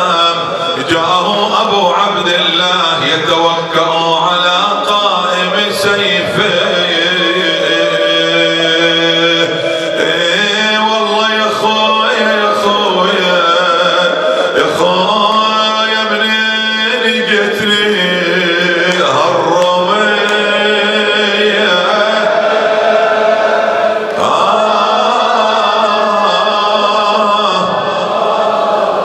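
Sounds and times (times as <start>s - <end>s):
man chanting through a microphone: 0.0s - 29.0s.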